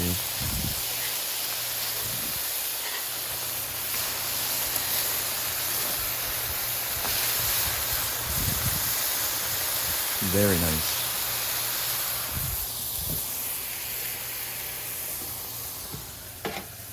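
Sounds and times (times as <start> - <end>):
food sizzling on griddle: 0.0 - 16.9.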